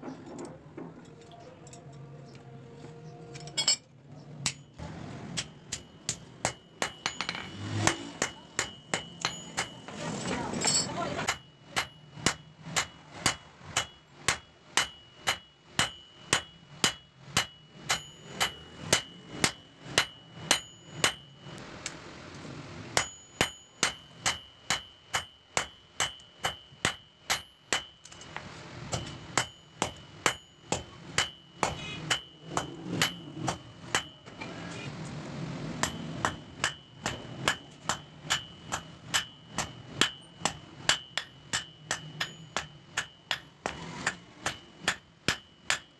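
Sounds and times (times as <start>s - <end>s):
hammer striking steel on anvil: 4.4s - 21.6s, 23.0s - 45.9s.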